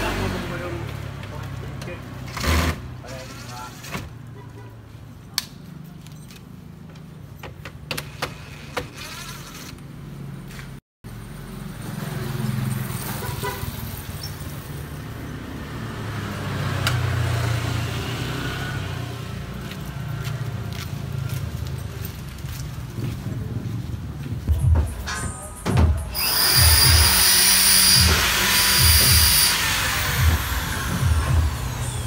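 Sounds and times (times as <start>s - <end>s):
vehicle engine rumble: 0.0s - 27.2s, 28.0s - 32.0s.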